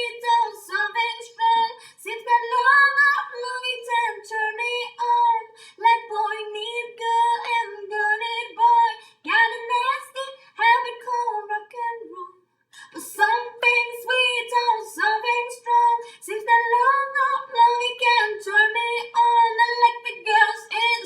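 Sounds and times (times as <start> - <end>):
woman singing unaccompanied: 0.0 - 21.0.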